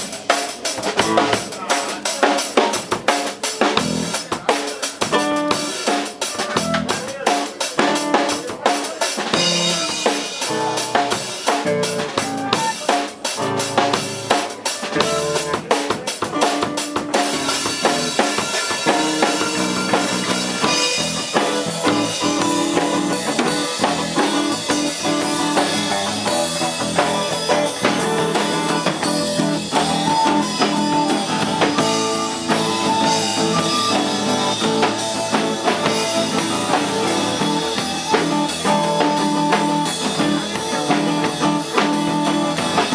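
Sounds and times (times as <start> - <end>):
band with guitars and bass: 0.0 - 42.9
drum kit playing: 0.0 - 42.9.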